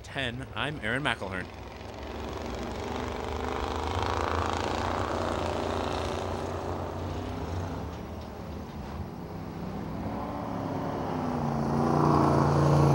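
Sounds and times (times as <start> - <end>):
race car engines running hard: 0.0 - 12.9.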